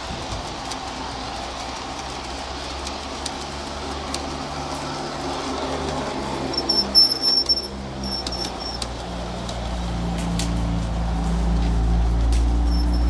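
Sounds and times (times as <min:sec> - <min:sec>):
model train cars rolling: 0:00.0 - 0:13.0
wheels clicking: 0:00.0 - 0:13.0.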